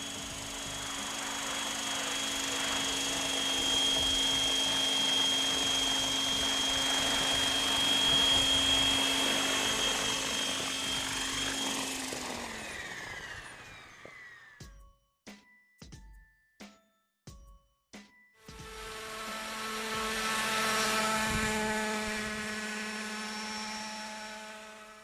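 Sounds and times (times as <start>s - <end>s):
rc helicopter motor whine: 0.0s - 14.7s, 18.5s - 25.0s.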